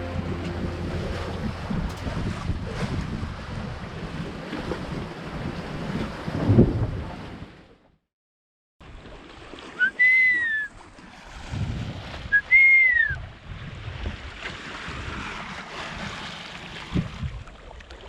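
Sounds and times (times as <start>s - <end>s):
water noise: 0.0s - 7.7s, 8.8s - 18.0s
wind: 0.0s - 7.9s, 8.8s - 18.0s.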